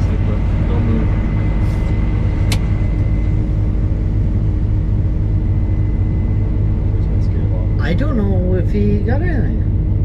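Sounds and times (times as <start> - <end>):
faint constant whine: 0.0 - 10.0
vehicle engine rumble: 0.0 - 10.0.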